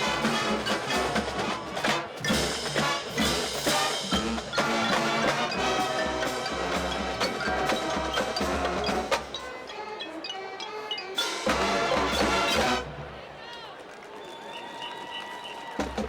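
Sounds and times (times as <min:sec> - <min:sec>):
instrumental music with percussion beat: 0:00.0 - 0:13.1.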